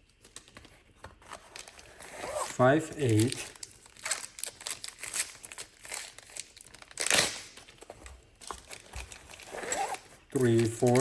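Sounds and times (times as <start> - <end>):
plastic packaging crinkling: 1.4 - 11.0.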